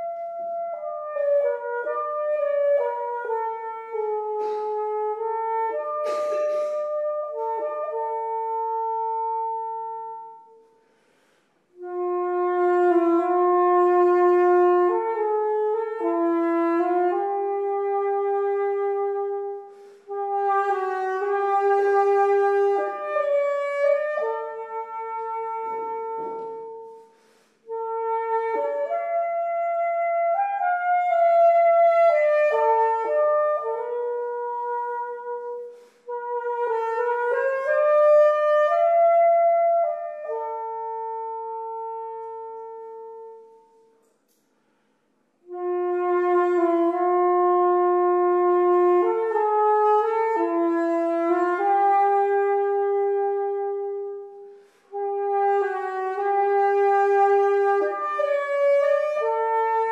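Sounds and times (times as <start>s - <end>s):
single-reed woodwind slow melody: 0.0s - 44.4s, 45.4s - 59.9s.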